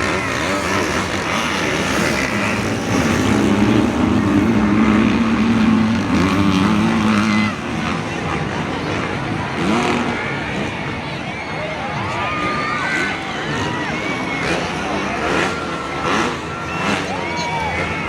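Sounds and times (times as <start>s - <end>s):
motocross bike engine running hard: 0.0s - 18.0s.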